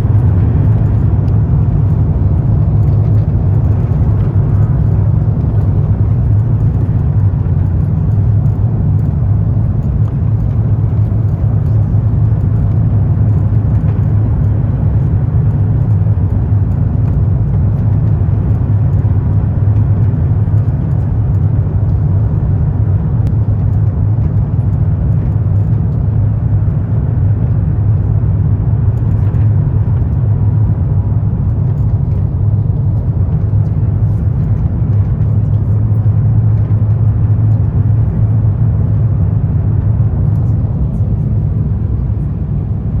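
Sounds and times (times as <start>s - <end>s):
aircraft cabin engine hum: 0.0s - 43.0s.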